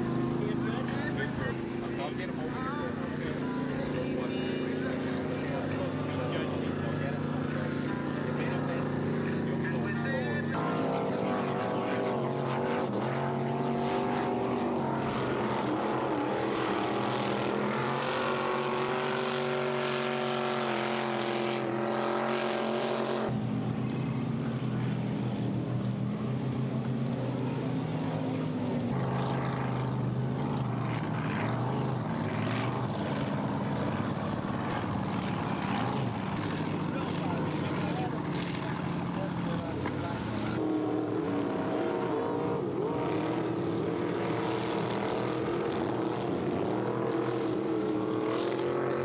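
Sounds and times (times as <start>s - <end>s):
boat engines running at speed: 0.0s - 49.0s.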